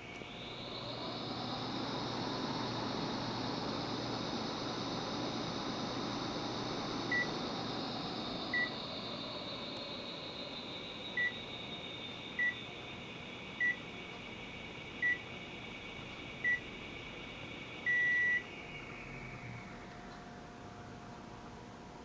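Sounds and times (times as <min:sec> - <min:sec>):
air conditioner beeping: 0:00.0 - 0:22.0
fan motor whine: 0:00.0 - 0:22.0.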